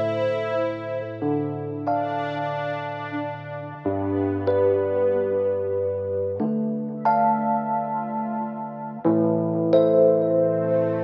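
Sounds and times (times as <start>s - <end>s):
electric piano chords: 0.0s - 11.0s.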